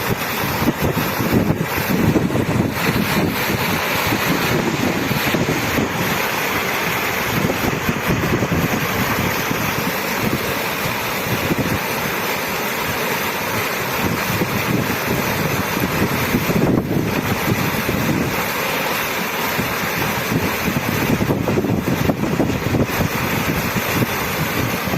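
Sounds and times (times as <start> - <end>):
fast-running water rushing: 0.0 - 24.9.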